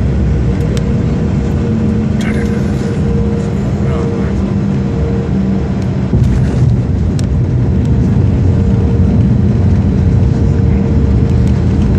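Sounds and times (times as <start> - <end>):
aircraft engine drone in cabin: 0.0 - 11.9
steady tones: 0.0 - 11.9.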